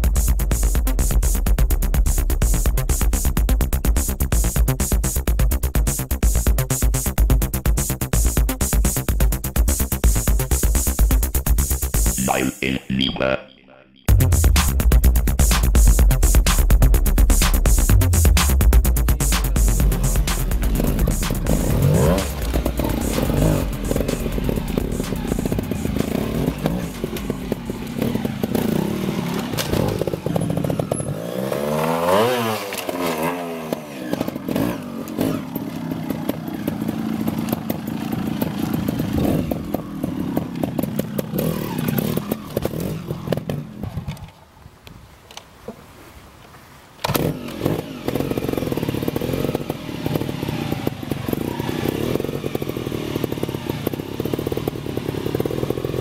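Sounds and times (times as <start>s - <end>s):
two-stroke motorbike engine revving: 0.0s - 12.8s, 14.1s - 43.8s, 47.0s - 56.0s.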